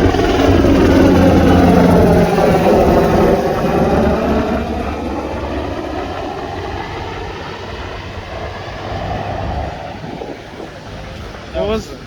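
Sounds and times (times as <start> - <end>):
engine passing by: 0.0 - 11.5.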